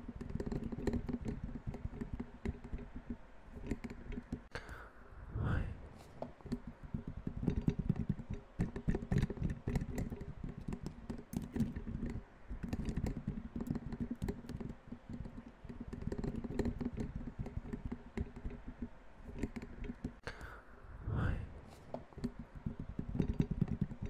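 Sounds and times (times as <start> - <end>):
rapid irregular tapping: 0.0 - 4.6, 6.2 - 20.5, 21.9 - 24.0.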